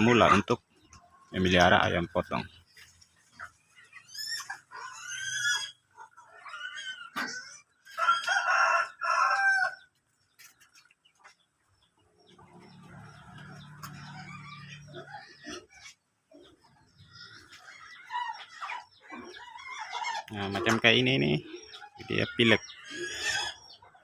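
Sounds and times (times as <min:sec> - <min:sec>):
chickens calling: 0:00.0 - 0:24.0.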